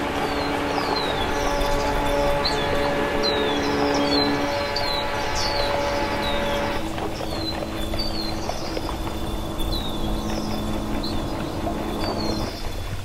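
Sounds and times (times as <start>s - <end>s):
ambient music drone: 0.0s - 13.0s
small birds chirping: 0.0s - 13.0s.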